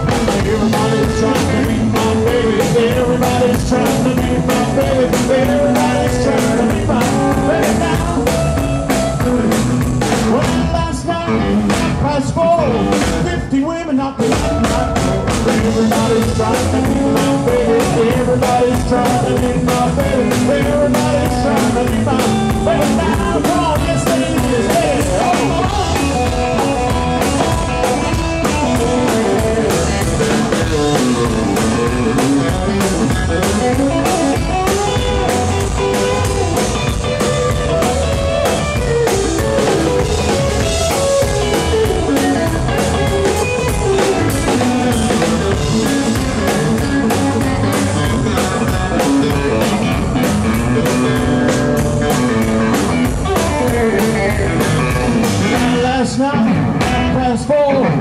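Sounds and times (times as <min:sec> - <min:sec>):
drum kit: 0:00.0 - 0:58.0
electric guitar: 0:00.0 - 0:58.0
upright bass: 0:00.0 - 0:58.0.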